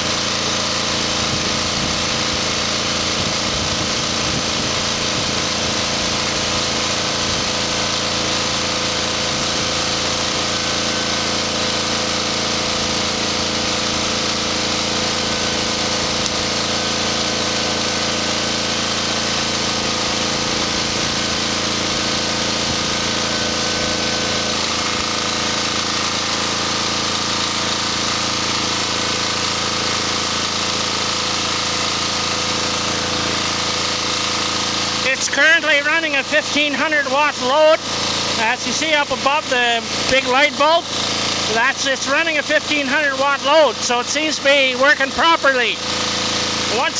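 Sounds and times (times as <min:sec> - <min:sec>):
diesel generator running: 0:00.0 - 0:46.9.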